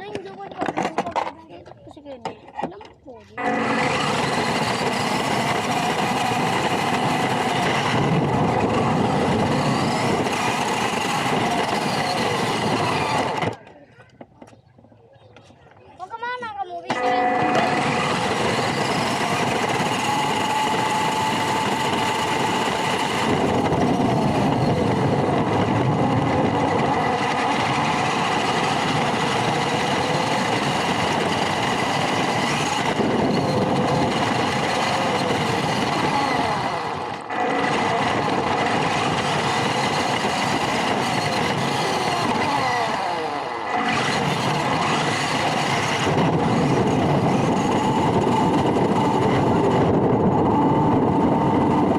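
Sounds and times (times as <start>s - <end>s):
toy truck electric motor whine: 3.4s - 13.7s, 16.9s - 51.9s.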